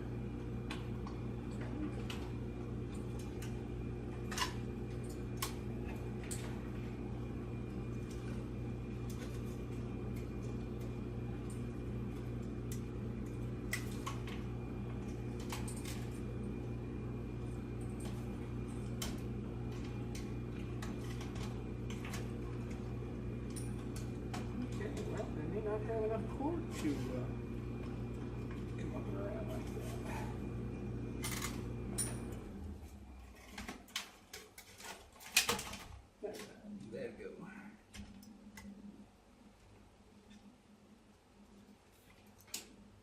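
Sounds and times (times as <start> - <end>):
fan-like hum: 0.0 - 43.0.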